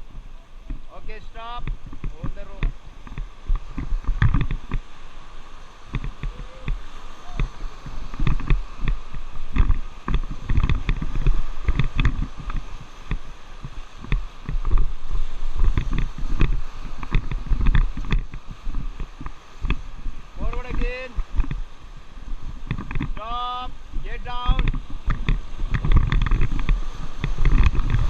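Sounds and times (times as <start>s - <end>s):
whitewater rushing and splashing: 0.0s - 28.0s
wind buffeting microphone: 0.0s - 28.0s.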